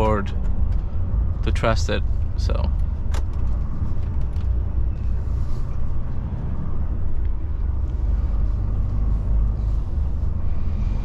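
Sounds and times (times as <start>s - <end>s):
truck diesel engine rumble: 0.0s - 11.0s.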